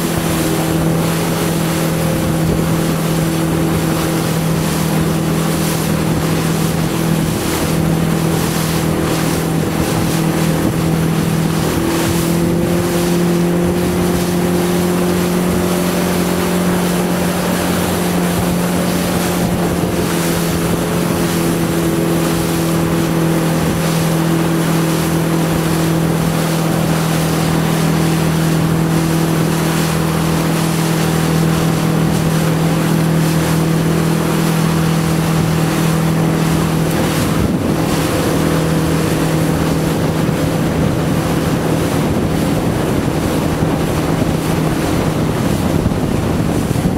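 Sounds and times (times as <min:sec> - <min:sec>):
motorboat engine droning: 0:00.0 - 0:46.9
water rushing: 0:00.0 - 0:46.9
wind buffeting microphone: 0:00.0 - 0:46.9.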